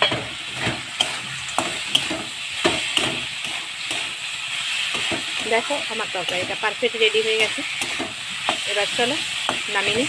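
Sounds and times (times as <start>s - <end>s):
sizzling: 0.0s - 10.0s
spatula scraping pan: 0.0s - 10.0s.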